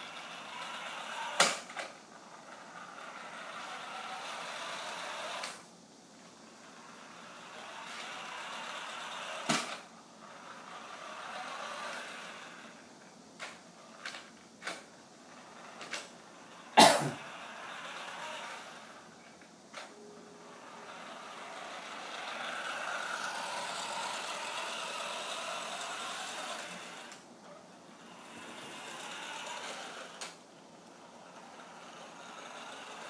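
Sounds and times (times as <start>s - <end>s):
toy car motor whirring: 0.0s - 5.7s, 6.5s - 33.0s.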